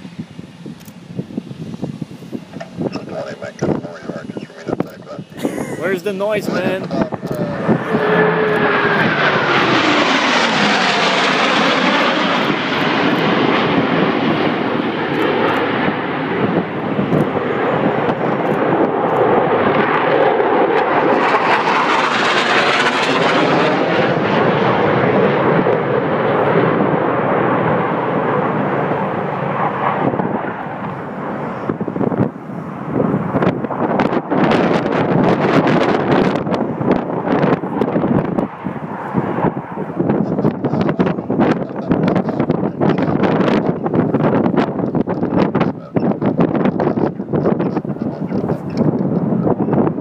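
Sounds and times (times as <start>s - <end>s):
jet engines flying over: 0.0s - 50.0s.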